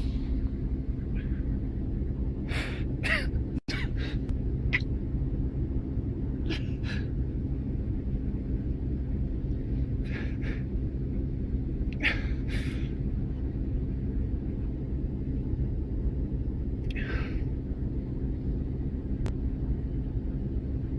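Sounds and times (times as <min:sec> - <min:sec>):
low rumble with faint hum: 0:00.0 - 0:20.9.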